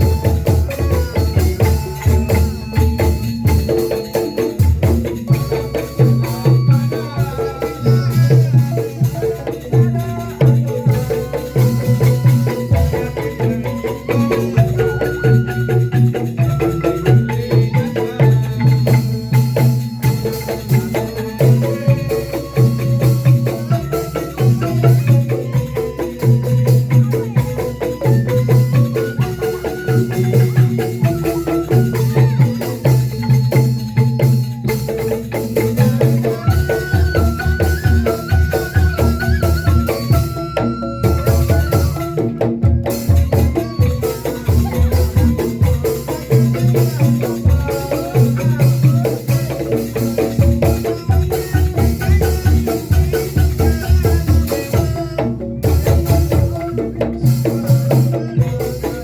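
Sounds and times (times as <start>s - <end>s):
tuned percussion music: 0.0s - 59.0s.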